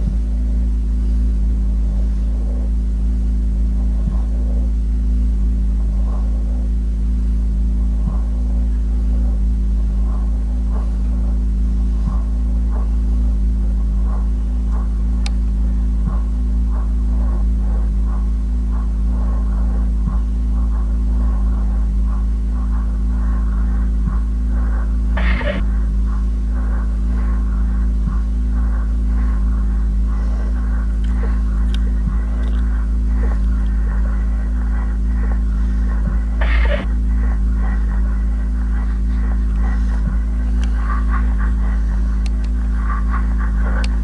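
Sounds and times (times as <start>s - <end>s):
crackling electronic pulses: 0.0s - 44.0s
loud low electronic drone: 0.0s - 44.0s.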